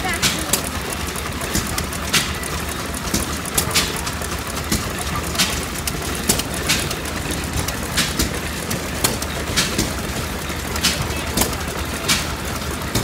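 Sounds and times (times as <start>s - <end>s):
hit-and-miss engine running: 0.0s - 13.0s
sharp clacks: 0.0s - 13.0s
water gushing into metal trough: 0.0s - 13.0s.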